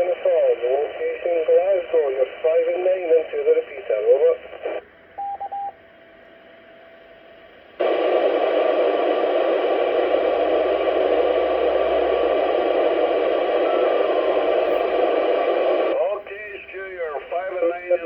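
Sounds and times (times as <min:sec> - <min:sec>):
radio static hiss: 0:00.0 - 0:04.9, 0:07.8 - 0:18.0.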